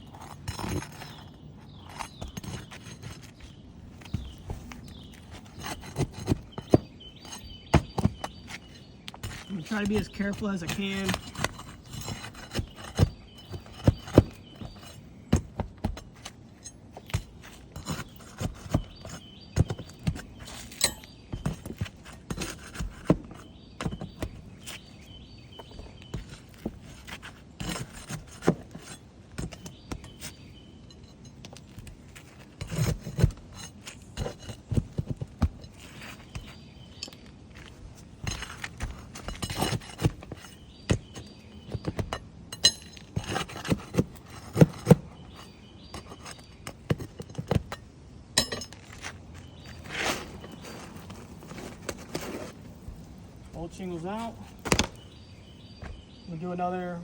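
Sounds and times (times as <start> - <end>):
tools scraping and knocking shingles: 0.0 - 56.9.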